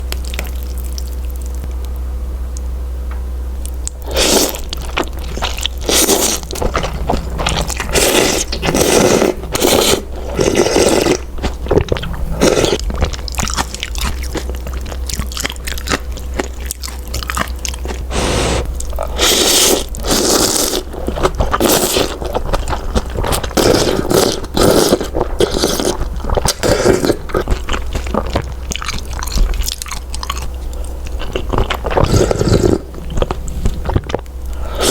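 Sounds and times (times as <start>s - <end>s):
steady low hum: 0.0s - 34.9s
biting and chewing noodles: 3.6s - 34.9s.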